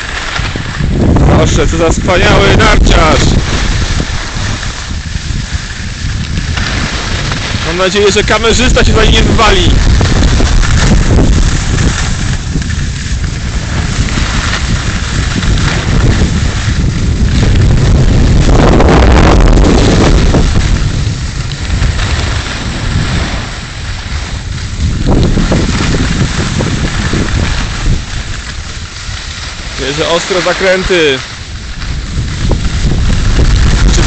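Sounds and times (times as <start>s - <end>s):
skis scraping on hard snow: 0.0s - 34.0s
wind buffeting microphone: 0.0s - 34.0s.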